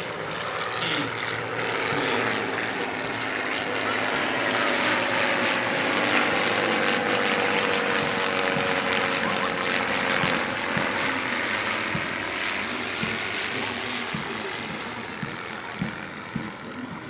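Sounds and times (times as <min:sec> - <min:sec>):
propeller planes droning overhead: 0:00.0 - 0:17.0.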